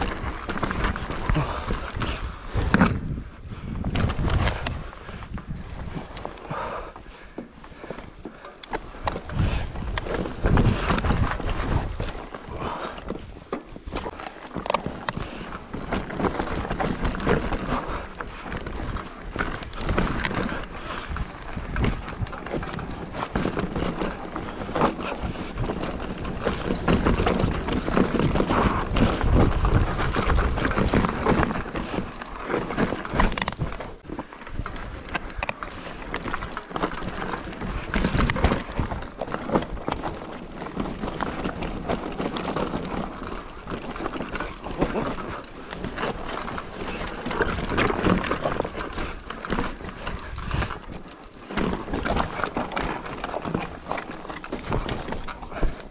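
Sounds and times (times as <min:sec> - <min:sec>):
mountain bike rattling on rocky trail: 0:00.0 - 0:55.9.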